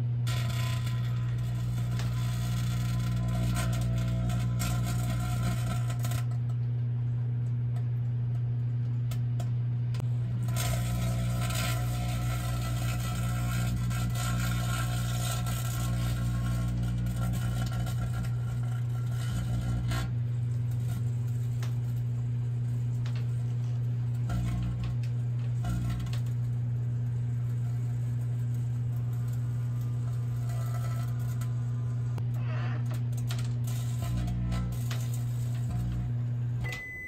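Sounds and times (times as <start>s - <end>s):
microwave oven humming: 0.0s - 37.0s.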